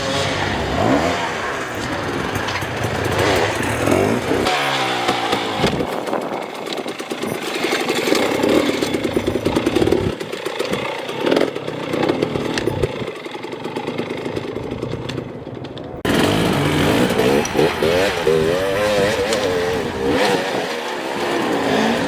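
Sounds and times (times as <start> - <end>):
dirt bike engine revving: 0.0 - 15.0, 16.1 - 22.0.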